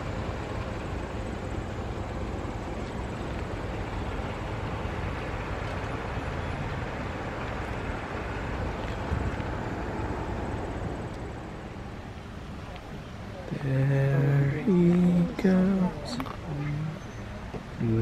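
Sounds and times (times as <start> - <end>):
low rushing noise: 0.0 - 18.0.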